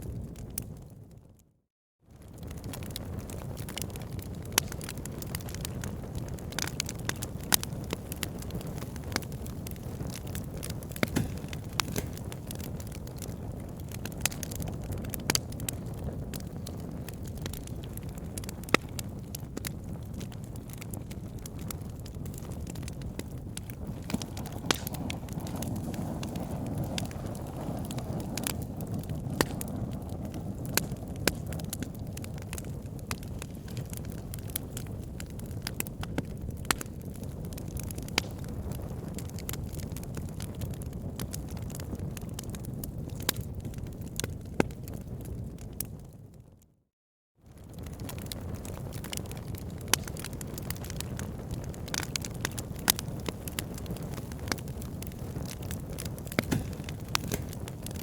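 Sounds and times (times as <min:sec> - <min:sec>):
wood fire crackling: 0:02.1 - 0:46.4, 0:47.5 - 0:58.0.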